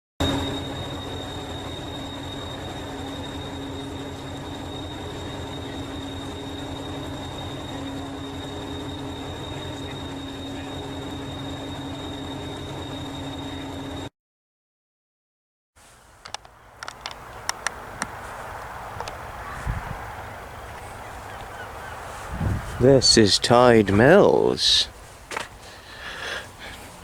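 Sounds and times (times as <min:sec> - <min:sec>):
high-pitched whine: 0:00.2 - 0:14.1, 0:16.2 - 0:27.0
train low rumble: 0:00.2 - 0:14.1, 0:15.8 - 0:27.0.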